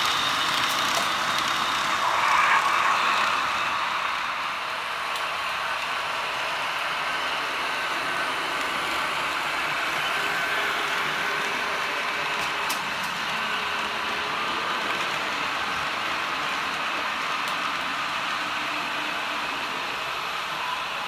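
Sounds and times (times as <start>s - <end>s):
model train whirring rumble: 0.0s - 21.0s.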